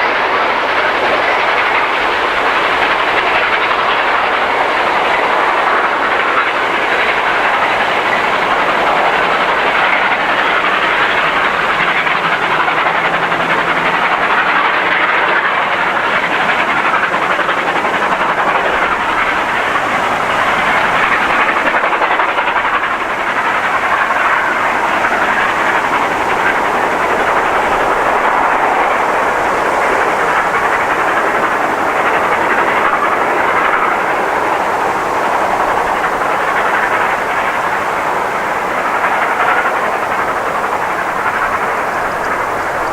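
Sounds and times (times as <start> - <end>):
steam train wheels on rails: 0.0 - 42.9.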